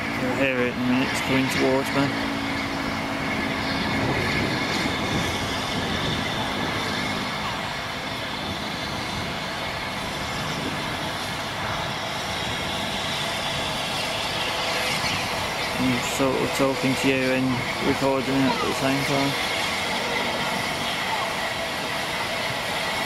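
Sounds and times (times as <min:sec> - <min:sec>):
steam locomotive working: 0:00.0 - 0:23.0.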